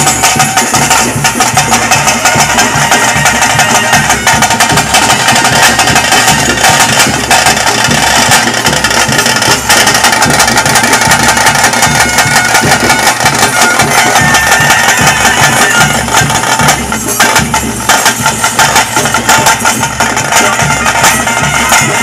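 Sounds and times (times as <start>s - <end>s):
drums beating steady rhythm: 0.0s - 22.0s
ritual music: 0.0s - 22.0s.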